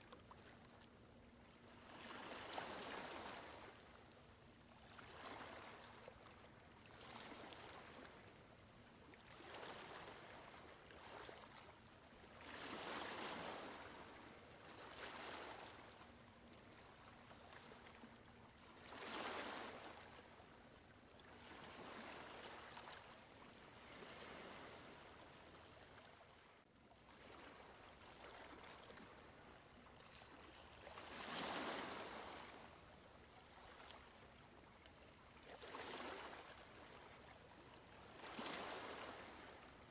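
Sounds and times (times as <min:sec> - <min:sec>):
faint steady hum: 0:00.0 - 0:39.9
faint waves washing in: 0:00.0 - 0:39.9.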